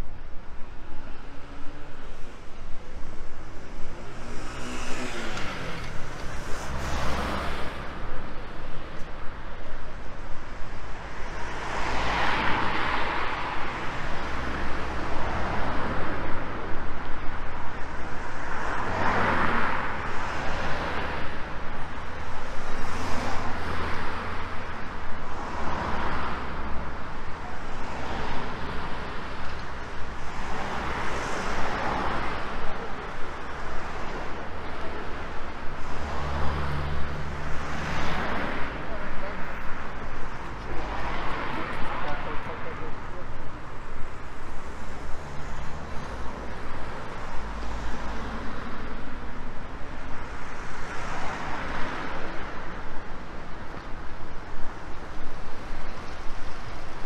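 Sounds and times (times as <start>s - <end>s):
cars passing: 0.0s - 57.0s
low traffic rumble: 0.0s - 57.0s.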